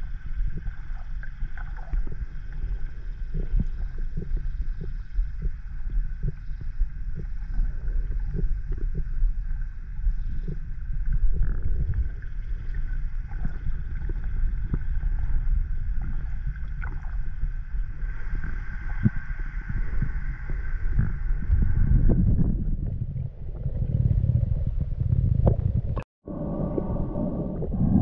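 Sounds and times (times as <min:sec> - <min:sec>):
low underwater rumble: 0:00.0 - 0:28.0.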